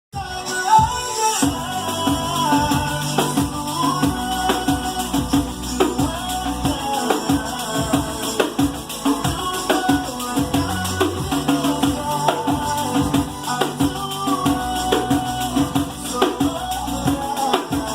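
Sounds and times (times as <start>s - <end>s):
music with bass and melody: 0.1s - 17.9s
jingled frame drum rhythm: 0.8s - 17.9s.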